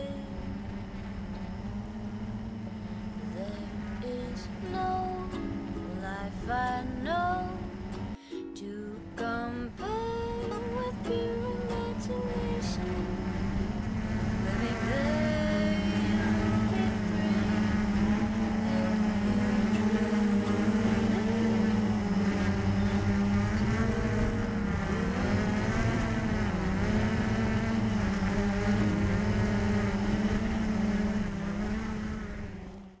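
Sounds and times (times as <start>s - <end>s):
quadcopter motors humming: 0.0s - 33.0s.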